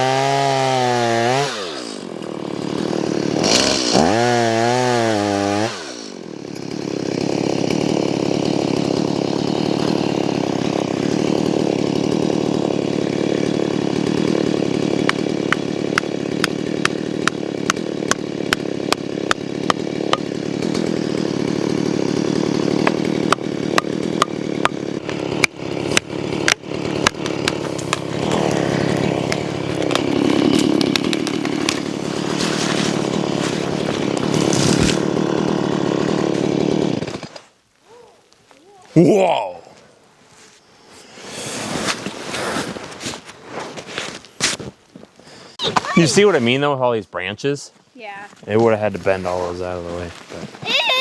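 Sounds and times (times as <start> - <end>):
chainsaw cutting a tree: 0.0 - 37.6, 45.5 - 46.6, 48.5 - 51.0.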